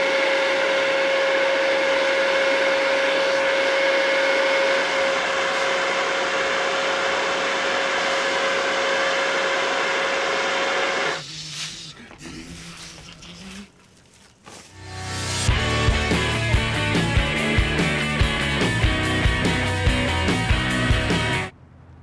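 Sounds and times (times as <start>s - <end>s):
leaf blower running: 0.0s - 11.9s, 14.6s - 21.4s.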